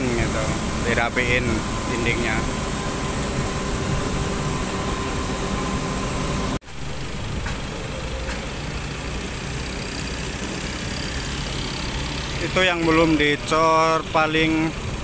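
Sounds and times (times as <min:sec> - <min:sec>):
heavy machinery engines running: 0:00.0 - 0:15.0.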